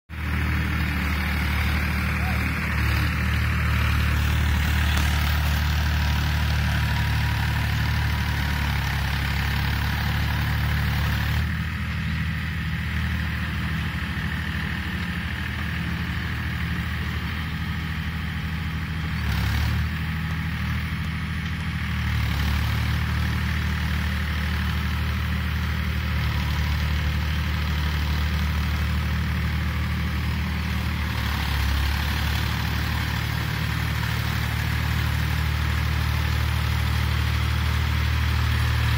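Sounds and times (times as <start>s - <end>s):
diesel tractor engine droning: 0.1s - 38.9s.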